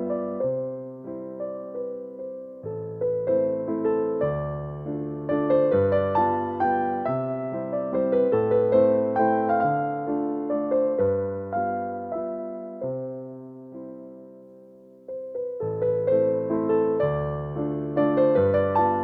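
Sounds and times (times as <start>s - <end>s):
soft slow piano music: 0.0s - 19.0s.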